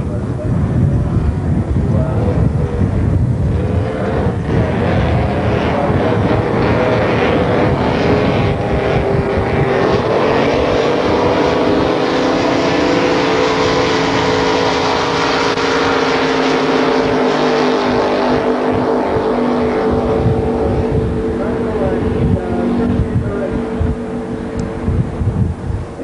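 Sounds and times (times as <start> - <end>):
powerboat engines droning: 0.0 - 26.0.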